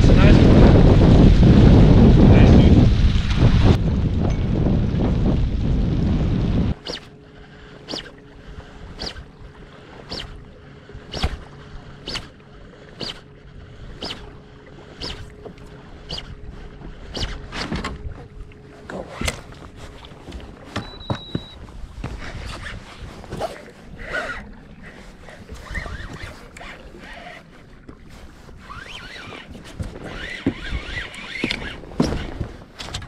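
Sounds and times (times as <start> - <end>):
water slapping boat hull: 0.0 - 33.0.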